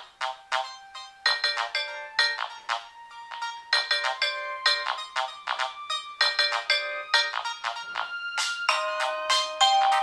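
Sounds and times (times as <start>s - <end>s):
phone ringtone melody: 0.4s - 10.0s.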